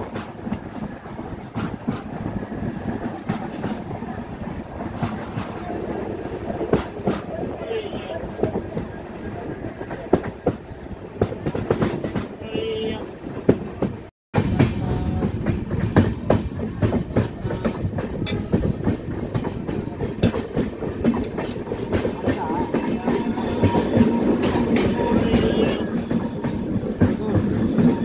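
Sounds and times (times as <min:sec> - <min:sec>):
train rumble: 0:00.0 - 0:28.0
train wheels clattering: 0:00.0 - 0:28.0.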